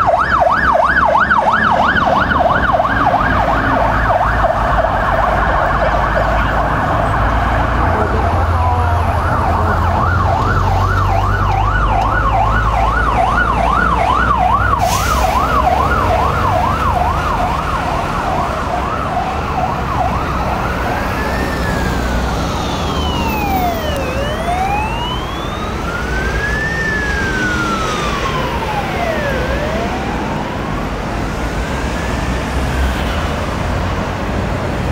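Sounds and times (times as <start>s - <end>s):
siren yelp: 0.0s - 32.5s
higher second siren: 0.0s - 33.0s
siren slow wail: 0.0s - 33.7s
truck engine rumble: 0.0s - 34.9s.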